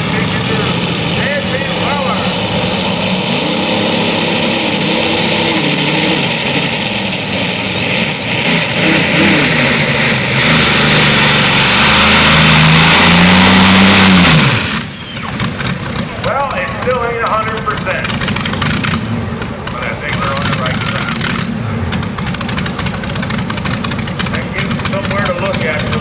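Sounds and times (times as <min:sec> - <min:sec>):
pulling tractor engines at full throttle: 0:00.0 - 0:26.0.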